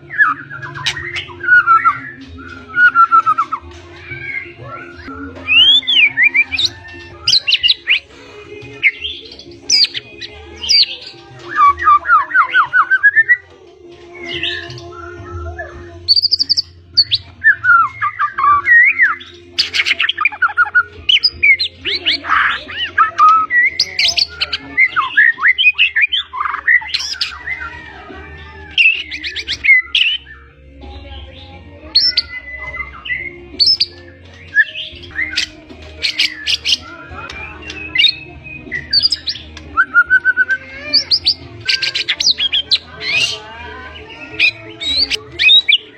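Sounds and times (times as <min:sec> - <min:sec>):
songbird singing varied song: 0:00.0 - 0:13.4, 0:14.0 - 0:27.9, 0:28.5 - 0:45.9.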